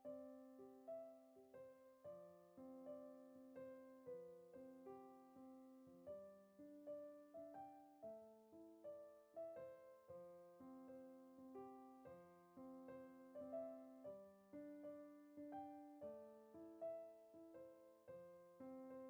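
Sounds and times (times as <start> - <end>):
soft piano melody: 0.0 - 19.0.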